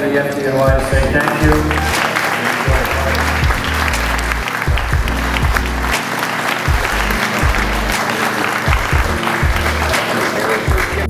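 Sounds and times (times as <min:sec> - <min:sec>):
background music with deep bass: 0:00.0 - 0:11.0
audience applauding: 0:00.8 - 0:11.0.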